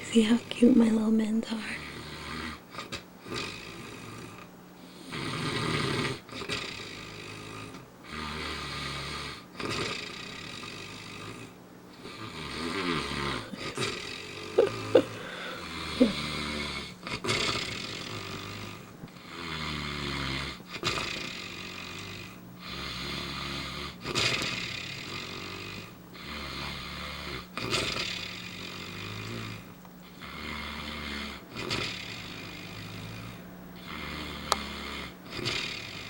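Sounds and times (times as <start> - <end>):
faint steady hum: 0.0 - 36.0
man snoring: 1.7 - 36.0.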